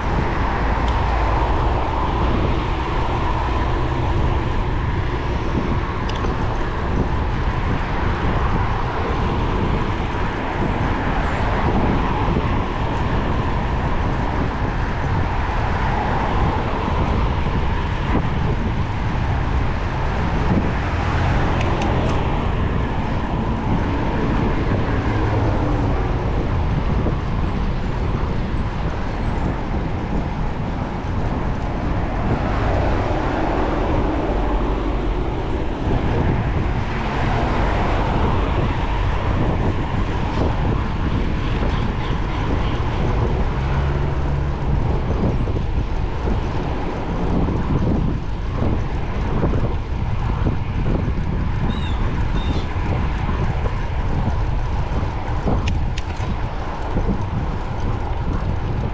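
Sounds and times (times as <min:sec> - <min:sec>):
car traffic passing: 0:00.0 - 0:58.9
wind rumbling on microphone: 0:00.0 - 0:58.9.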